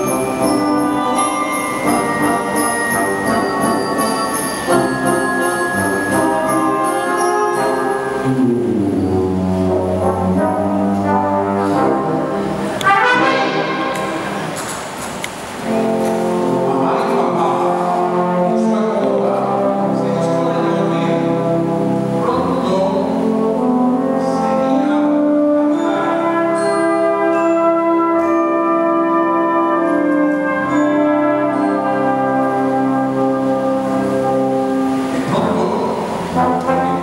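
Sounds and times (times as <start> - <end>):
brass ensemble playing chords: 0.0 - 37.0.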